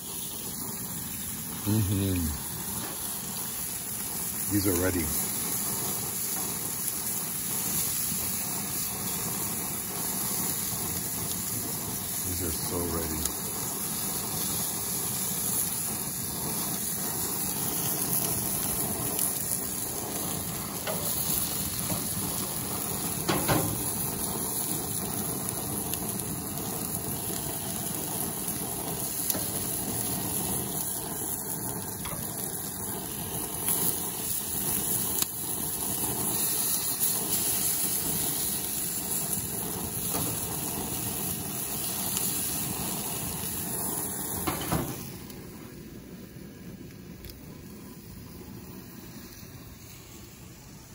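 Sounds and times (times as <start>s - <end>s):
octopus sizzling on grill: 0.0s - 50.9s.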